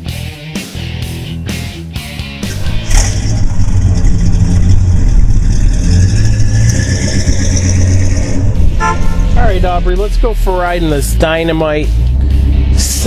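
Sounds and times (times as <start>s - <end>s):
car engine running: 2.5s - 13.0s.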